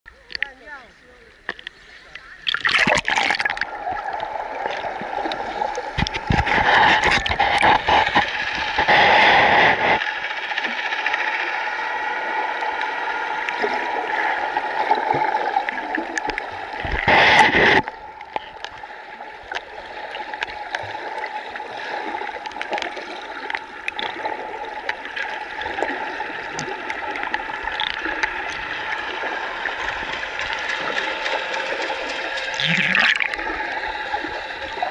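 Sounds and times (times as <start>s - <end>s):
muffled underwater wash: 0.1s - 34.9s
splashing and bubbling: 1.4s - 34.9s.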